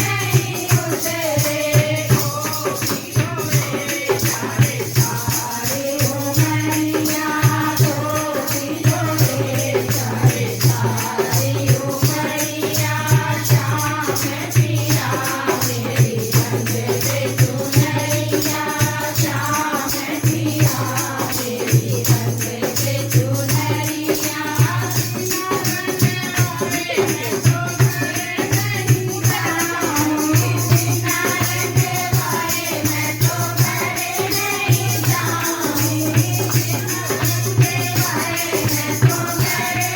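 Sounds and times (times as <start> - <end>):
fast steady percussion: 0.0 - 39.9.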